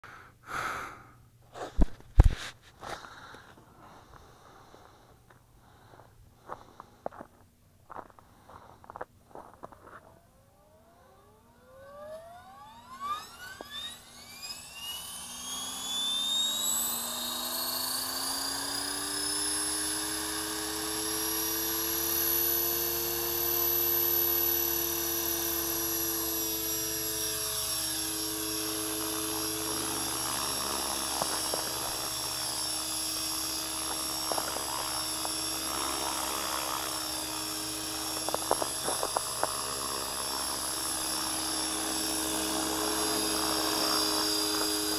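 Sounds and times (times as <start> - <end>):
helicopter rotor hum: 1.6 - 7.1, 8.2 - 44.9
electric motor whine: 7.9 - 44.9.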